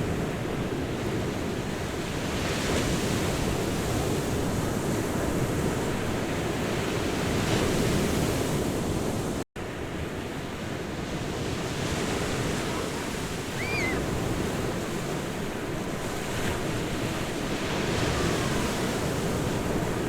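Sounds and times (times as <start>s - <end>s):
ocean surf washing on beach: 0.0s - 20.0s.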